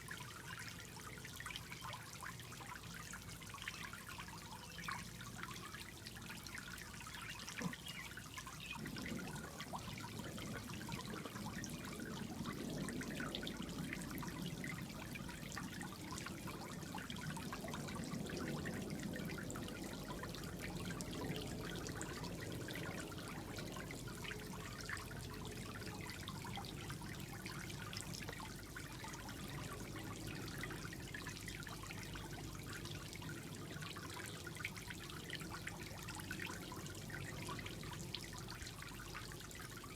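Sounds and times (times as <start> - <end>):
fountain water trickling into pool: 0.0 - 39.9.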